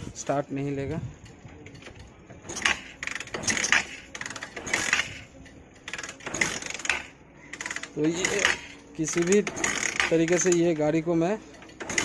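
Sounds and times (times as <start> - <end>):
motorcycle engine kick start clattering: 1.7 - 10.9, 11.6 - 12.0.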